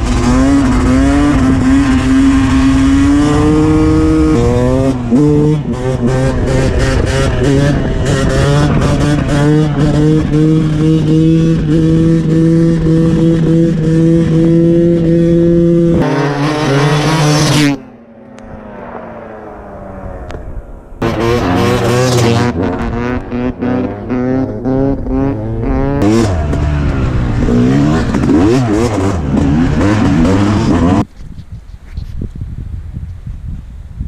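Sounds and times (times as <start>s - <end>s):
dirt bike engine revving: 0.0s - 20.0s, 21.0s - 31.1s.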